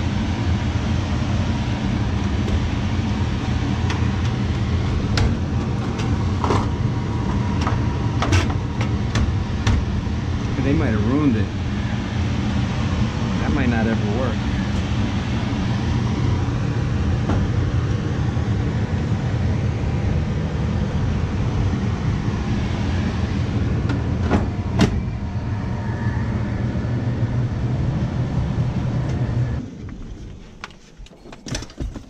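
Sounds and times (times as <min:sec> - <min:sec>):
furnace blower humming: 0:00.0 - 0:32.0.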